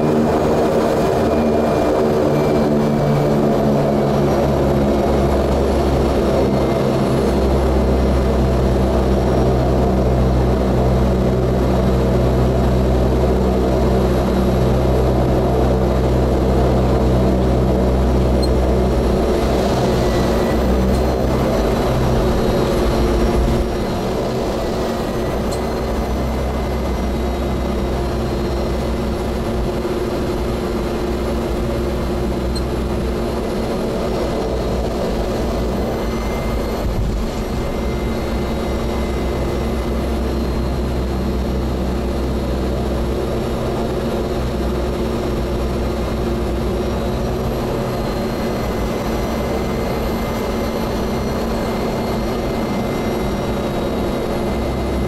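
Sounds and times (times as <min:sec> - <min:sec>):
engine and propeller drone: 0:00.0 - 0:55.0
turbine whine: 0:00.0 - 0:55.0.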